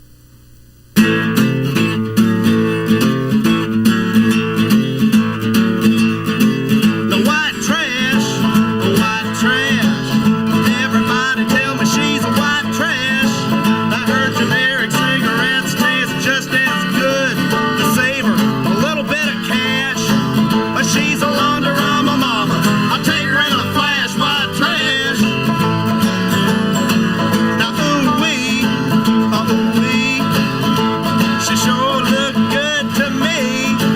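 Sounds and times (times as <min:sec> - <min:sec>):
acoustic guitar country music: 0:01.0 - 0:33.9
sliding guitar melody: 0:01.0 - 0:33.9.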